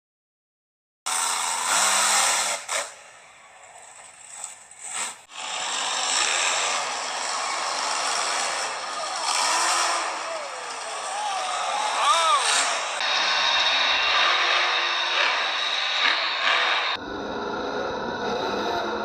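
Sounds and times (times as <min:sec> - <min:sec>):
monster truck engine at high revs: 0:01.1 - 0:19.0.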